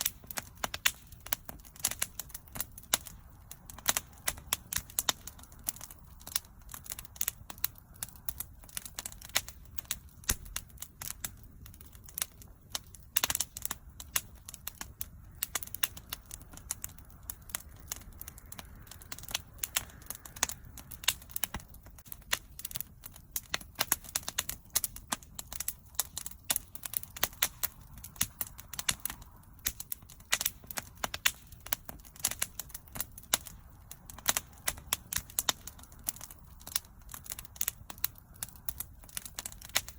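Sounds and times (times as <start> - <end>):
bonfire crackling and popping: 0.0 - 39.9
low rumble of flame: 0.0 - 39.9.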